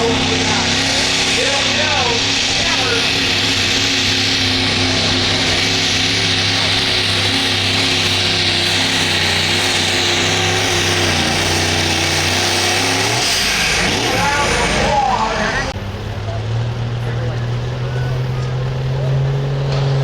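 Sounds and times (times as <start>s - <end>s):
loud pulling vehicle engine: 0.0s - 20.0s.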